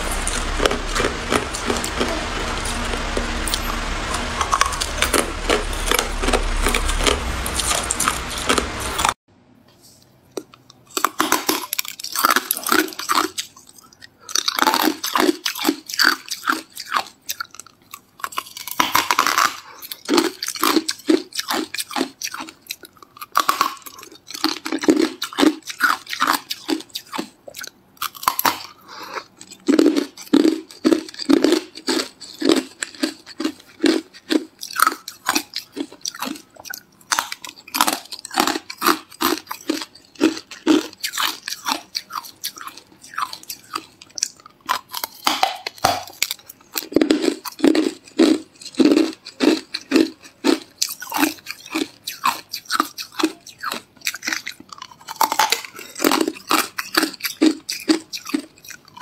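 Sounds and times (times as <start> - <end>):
ice being chewed and crunched: 0.0 - 9.2, 10.3 - 59.0.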